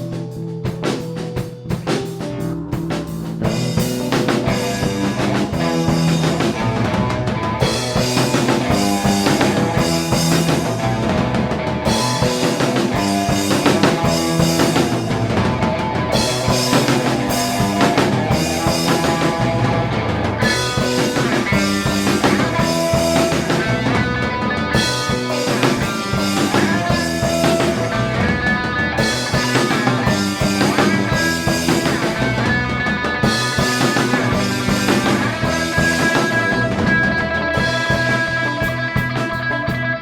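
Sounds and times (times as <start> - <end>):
rock band playing: 0.0 - 40.0.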